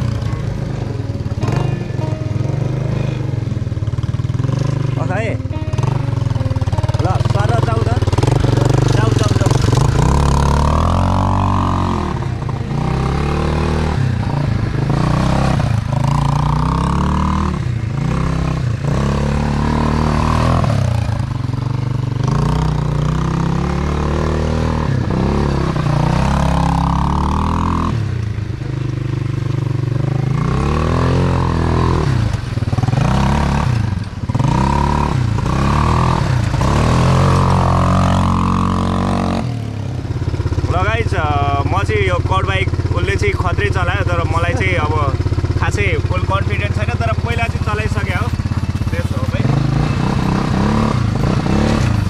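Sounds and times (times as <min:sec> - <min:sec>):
quad bike engine revving: 0:00.0 - 0:52.0.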